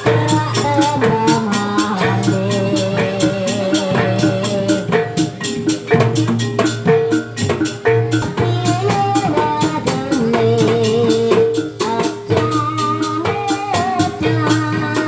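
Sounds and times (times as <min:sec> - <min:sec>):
rapid drum strokes: 0:00.0 - 0:15.0.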